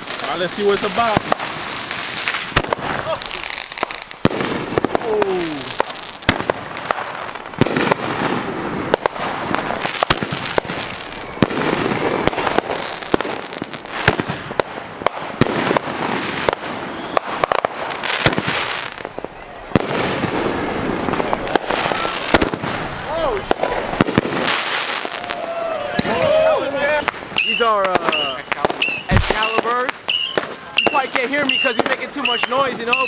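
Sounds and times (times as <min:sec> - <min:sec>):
fireworks crackling: 0:00.0 - 0:33.0
fireworks sharp bangs: 0:00.0 - 0:33.0.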